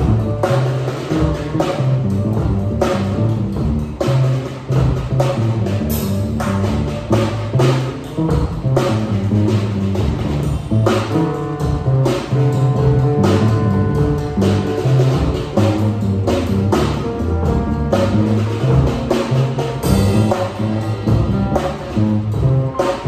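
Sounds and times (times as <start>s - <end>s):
drum and cymbal strokes: 0.0s - 23.0s.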